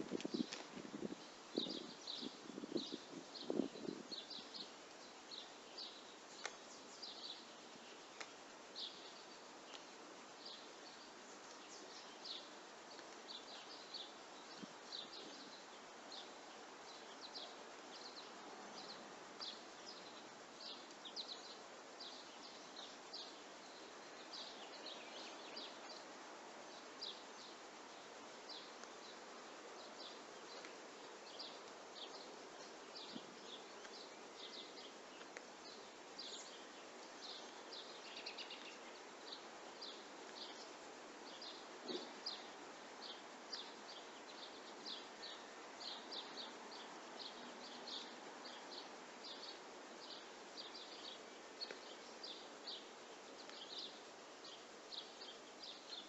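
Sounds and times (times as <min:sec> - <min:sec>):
faint birds chirping: 0:00.0 - 0:56.0
outdoor background hiss: 0:00.0 - 0:56.0.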